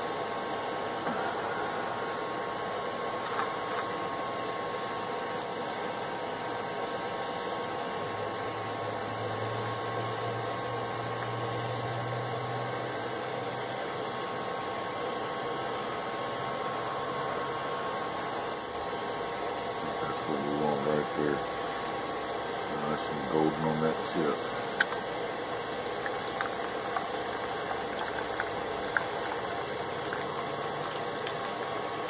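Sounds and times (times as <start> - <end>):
air blower hissing with whine: 0.0 - 32.0.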